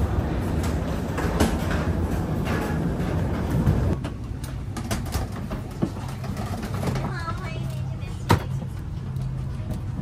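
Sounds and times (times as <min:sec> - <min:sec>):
rolling suitcase wheels: 0:00.0 - 0:10.0.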